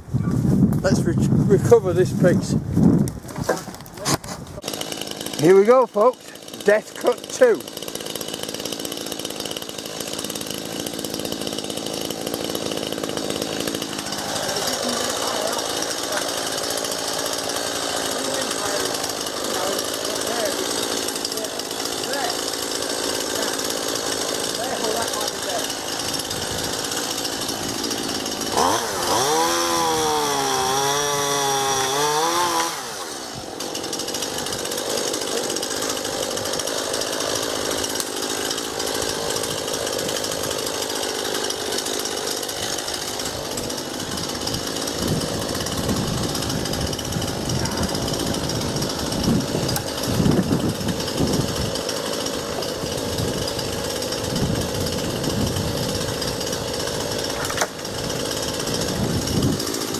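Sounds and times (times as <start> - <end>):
chainsaw cutting a branch: 1.7 - 59.9.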